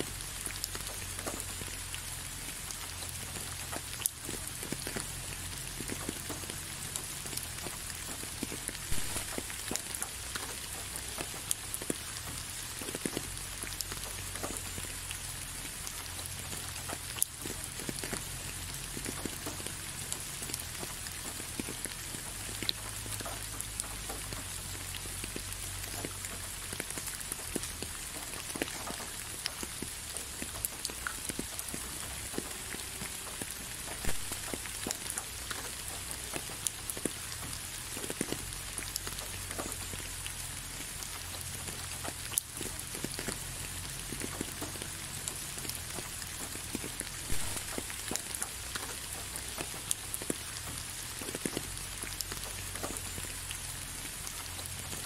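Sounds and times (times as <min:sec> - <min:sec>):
raindrops ticking close by: 0:00.0 - 0:55.0
steady rain hiss: 0:00.0 - 0:55.0.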